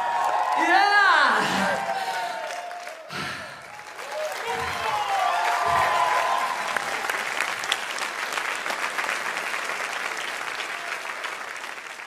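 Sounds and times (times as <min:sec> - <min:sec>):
group clapping: 0:00.0 - 0:12.0
people cheering: 0:00.0 - 0:12.0.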